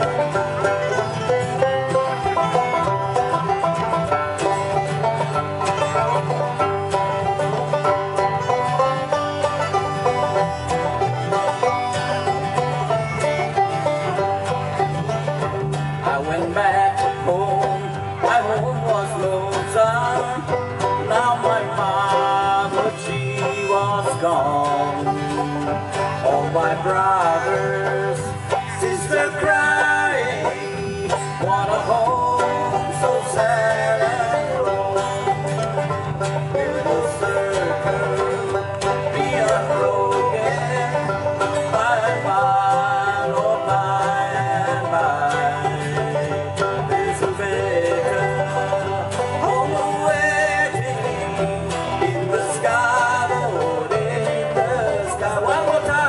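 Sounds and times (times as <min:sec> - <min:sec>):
acoustic guitar: 0:00.0 - 0:56.0
banjo picking: 0:00.0 - 0:56.0
upright bass: 0:00.0 - 0:56.0.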